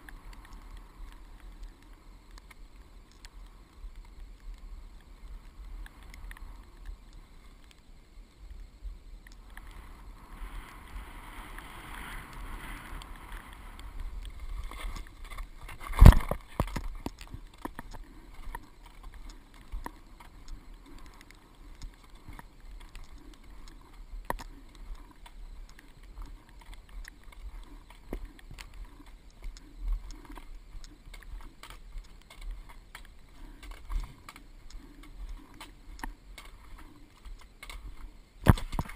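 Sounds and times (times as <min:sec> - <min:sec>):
skis sliding over snow: 0:00.0 - 0:38.9
small clicks: 0:00.0 - 0:38.9.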